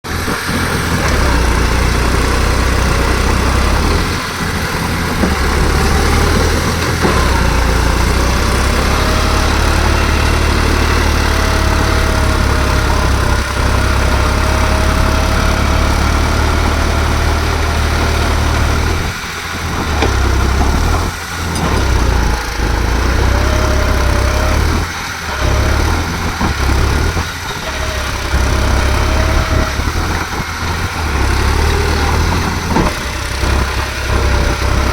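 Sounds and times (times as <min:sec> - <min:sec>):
tractor diesel engine rumbling: 0:00.0 - 0:34.9.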